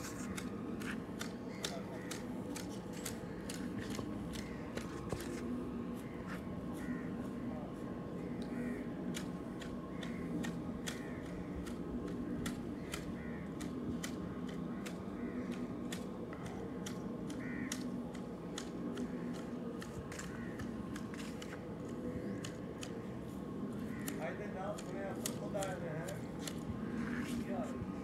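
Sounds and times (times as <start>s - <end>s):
hedge shears snipping: 0.0s - 6.9s, 8.3s - 27.4s.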